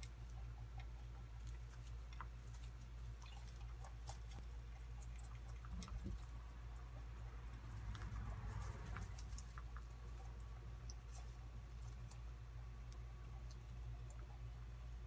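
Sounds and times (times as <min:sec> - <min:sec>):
rabbits chewing and crunching: 0:00.0 - 0:15.0
steady low hum: 0:00.0 - 0:15.0.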